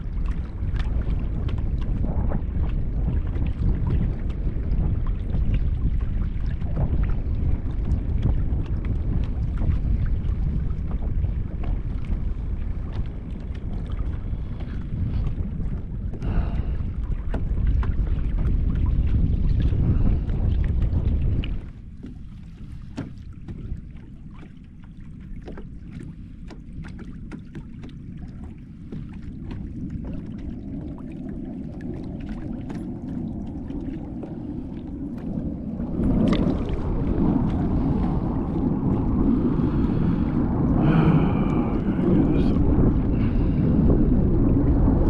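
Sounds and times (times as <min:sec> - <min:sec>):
water lapping against hull: 0:00.0 - 0:45.0
wind buffeting microphone: 0:00.0 - 0:45.0.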